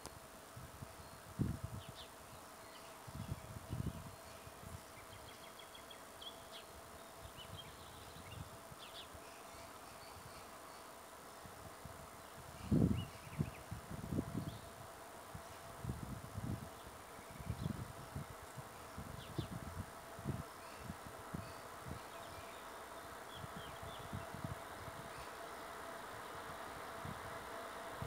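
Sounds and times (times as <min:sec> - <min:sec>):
faint steady hum: 0:00.0 - 0:28.0
wind gusts on microphone: 0:00.5 - 0:02.2, 0:03.0 - 0:05.3, 0:06.8 - 0:09.2, 0:11.4 - 0:28.0.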